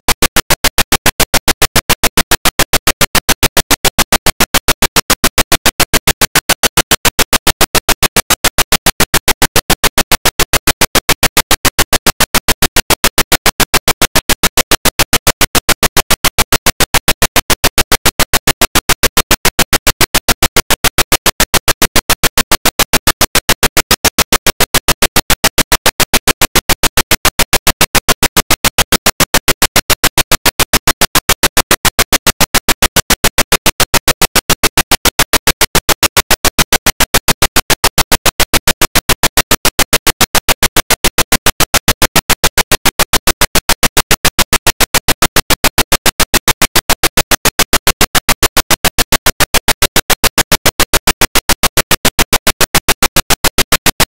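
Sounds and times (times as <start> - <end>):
fast train of sharp clicks: 0.0 - 54.0.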